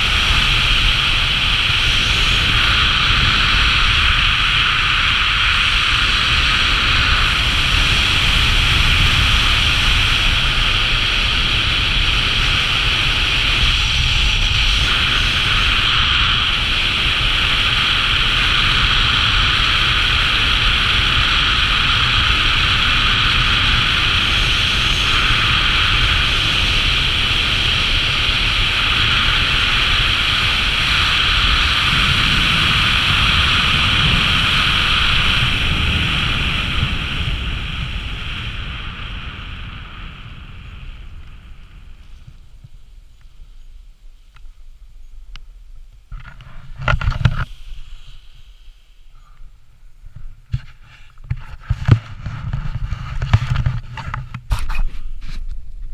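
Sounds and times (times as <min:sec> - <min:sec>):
rushing wind on microphone: 0:00.0 - 0:55.9.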